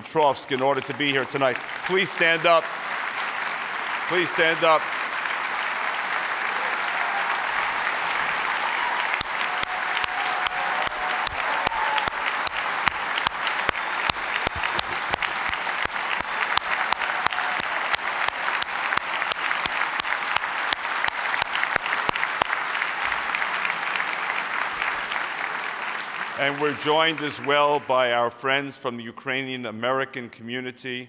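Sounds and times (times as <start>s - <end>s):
rhythmic clapping in unison: 0.0s - 28.2s
audience applauding: 0.0s - 28.3s.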